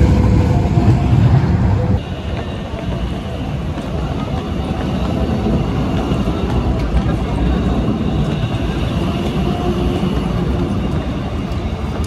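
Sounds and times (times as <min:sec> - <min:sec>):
tram low rumble: 0:00.0 - 0:12.0.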